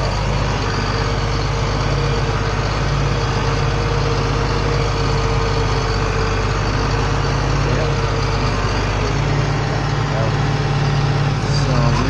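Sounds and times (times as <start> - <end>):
high-pitched whine: 0.0 - 12.0
tractor diesel engine running: 0.0 - 12.0.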